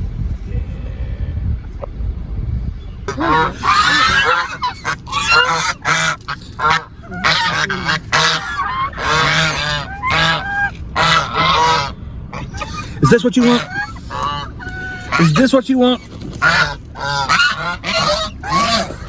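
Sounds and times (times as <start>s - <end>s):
geese honking: 3.1s - 19.0s.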